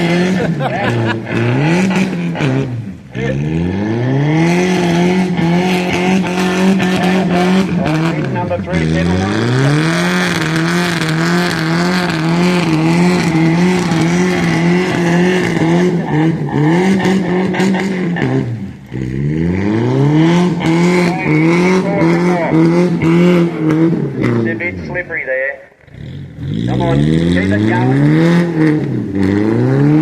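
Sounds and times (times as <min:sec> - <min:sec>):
car engine revving hard: 0:00.0 - 0:25.1, 0:25.8 - 0:30.0.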